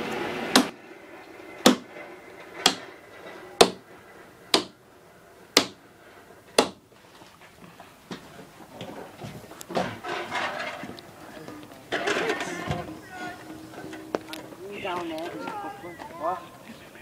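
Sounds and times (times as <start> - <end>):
train running: 0.0 - 7.0, 7.9 - 17.0.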